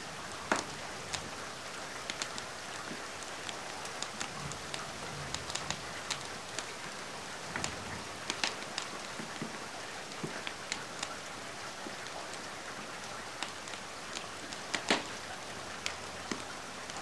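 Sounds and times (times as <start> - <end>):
crackling fireplace: 0.0 - 17.0.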